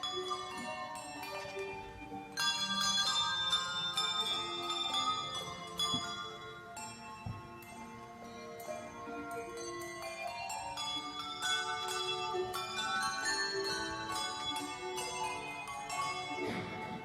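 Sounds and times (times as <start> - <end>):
handbells ringing: 0.0 - 17.0.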